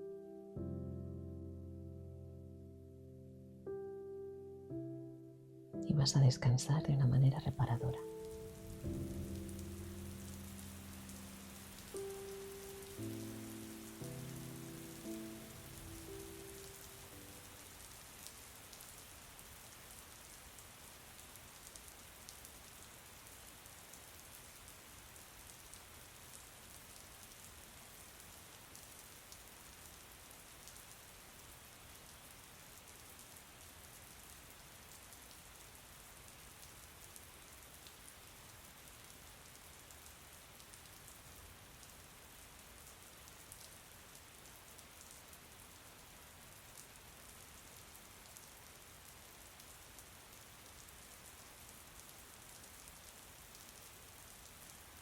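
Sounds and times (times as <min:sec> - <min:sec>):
rain pattering on a surface: 0:07.2 - 0:55.0.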